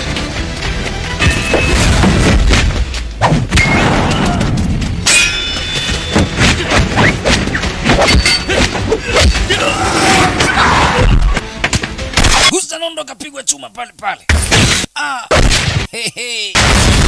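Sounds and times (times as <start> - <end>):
background music: 0.0 - 14.2.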